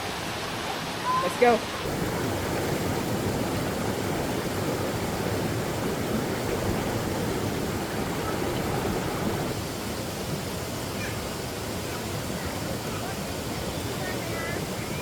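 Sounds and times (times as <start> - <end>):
waterfall roaring into pool: 0.0 - 15.0.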